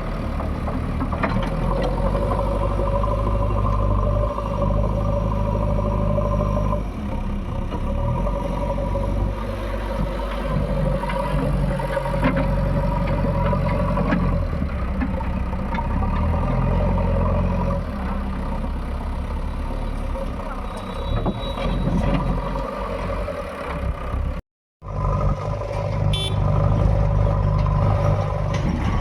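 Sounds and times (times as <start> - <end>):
heavy diesel engine running: 0.0 - 21.2, 21.8 - 29.0.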